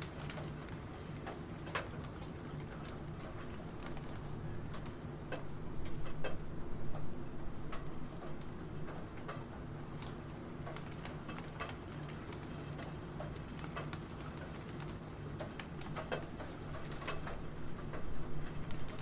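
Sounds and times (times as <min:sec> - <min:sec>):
rain: 0:00.0 - 0:19.0.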